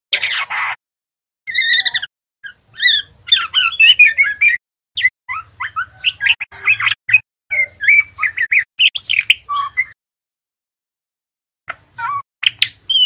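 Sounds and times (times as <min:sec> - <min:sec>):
bird chirps and twitters: 0:00.1 - 0:00.8, 0:01.5 - 0:10.0, 0:11.7 - 0:13.0.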